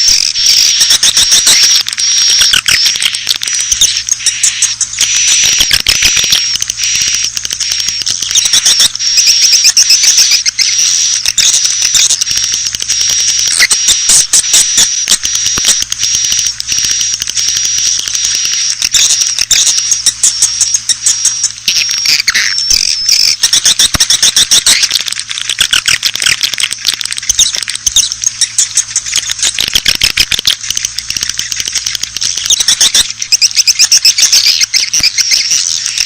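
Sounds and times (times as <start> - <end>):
swiftlets twittering: 0.0 - 36.0.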